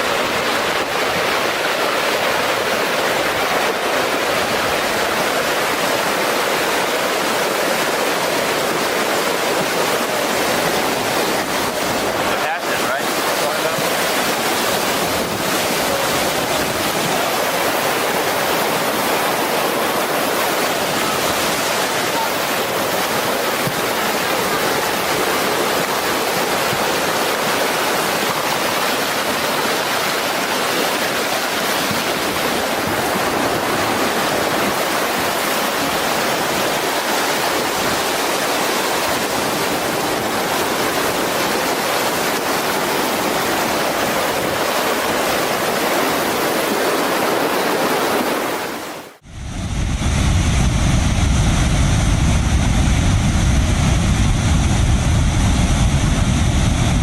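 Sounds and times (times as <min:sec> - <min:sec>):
muddy floodwater rushing: 0:00.0 - 0:49.2.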